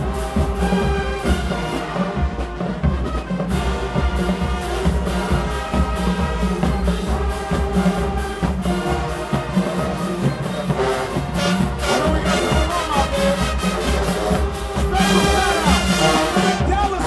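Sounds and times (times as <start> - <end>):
brass section sustained chords: 0.0 - 17.0
drumline steady beat: 0.0 - 17.0.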